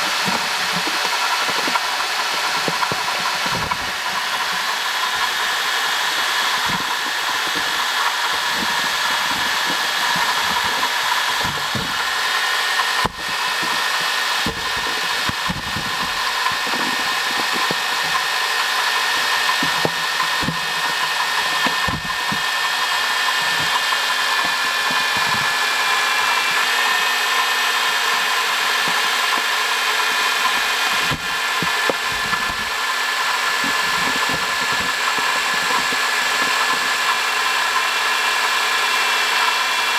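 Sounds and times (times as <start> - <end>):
water pump high-pitched whine: 0.0 - 39.9.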